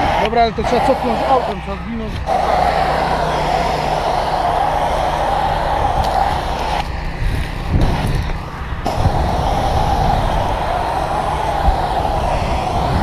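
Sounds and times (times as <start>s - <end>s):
fire hose water jet hissing: 0.0s - 1.6s, 2.2s - 13.0s.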